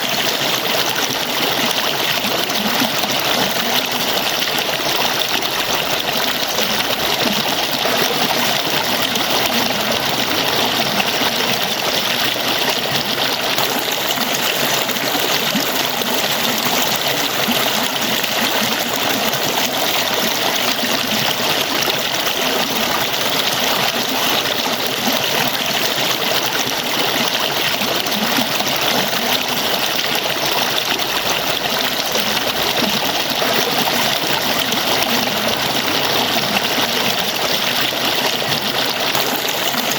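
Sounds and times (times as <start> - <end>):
falling water splashing: 0.0 - 39.9.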